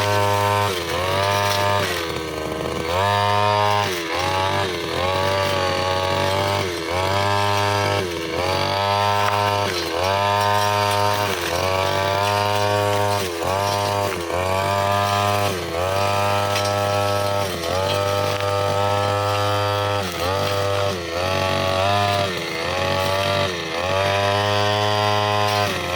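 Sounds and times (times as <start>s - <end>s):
brushcutter engine at high revs: 0.0s - 25.9s.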